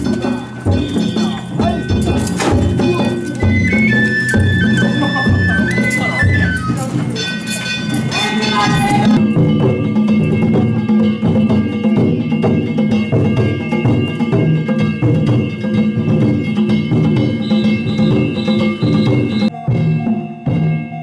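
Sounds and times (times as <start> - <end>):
small hand gongs ringing: 0.0 - 19.6
taiko drums beating fast: 0.0 - 20.8.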